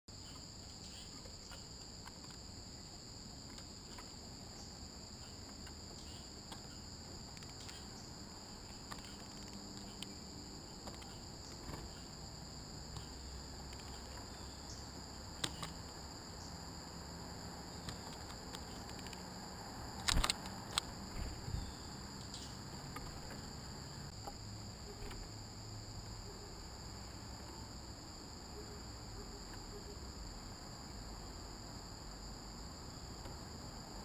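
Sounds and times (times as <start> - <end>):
insects chorus: 0.1 - 34.0.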